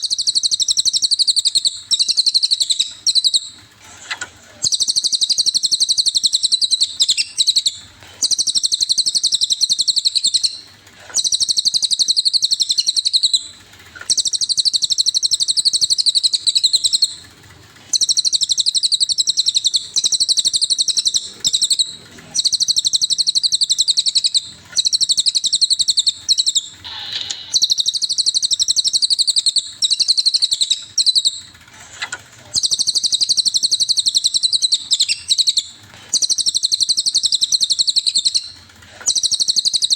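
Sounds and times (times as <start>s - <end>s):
bird trilling: 0.0s - 39.9s.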